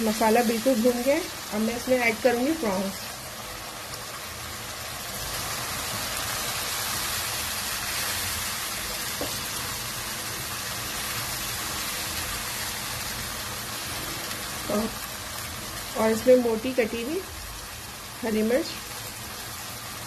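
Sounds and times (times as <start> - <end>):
prawns sizzling in a pan: 0.0 - 20.0.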